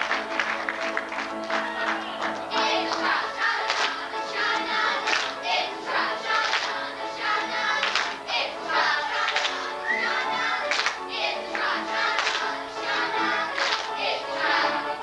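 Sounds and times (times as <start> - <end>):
children singing along: 1.4 - 15.0.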